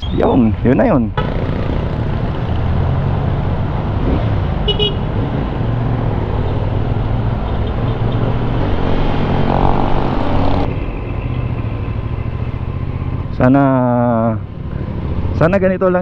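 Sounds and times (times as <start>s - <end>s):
wind and road rush: 0.0s - 16.0s
motorcycle engine running: 1.2s - 15.5s.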